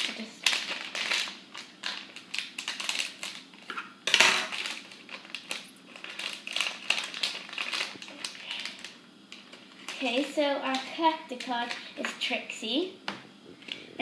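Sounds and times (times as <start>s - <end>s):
foil packet crinkling: 0.0s - 12.4s.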